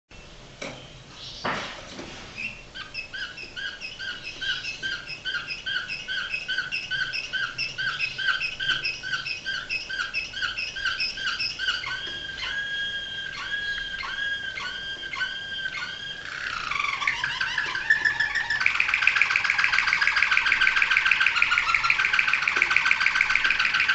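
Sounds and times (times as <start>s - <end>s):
canary singing: 0.8s - 1.5s, 2.4s - 23.9s.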